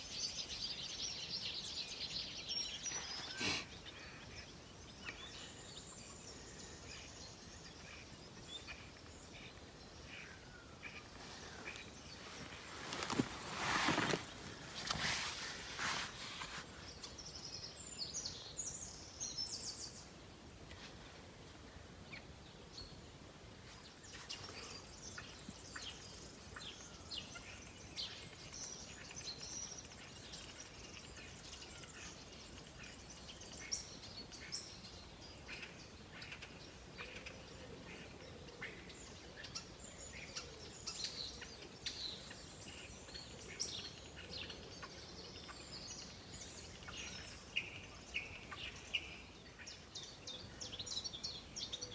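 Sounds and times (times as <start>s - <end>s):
wild birds chirping: 0.0s - 51.9s.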